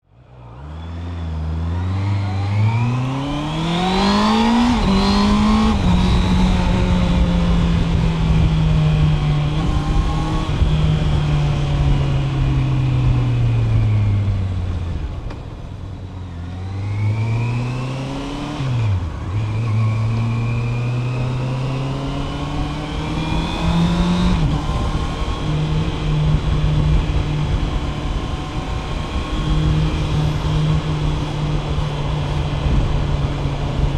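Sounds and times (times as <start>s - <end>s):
wind and road noise: 0.0s - 33.9s
motorcycle engine revving: 0.3s - 33.9s.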